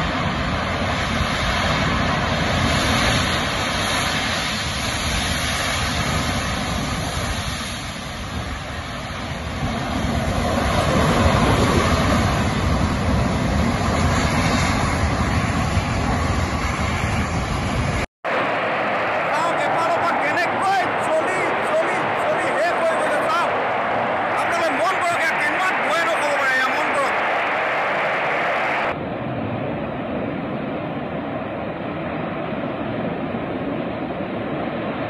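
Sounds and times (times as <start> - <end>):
gas jet roaring and burning: 0.0 - 35.0.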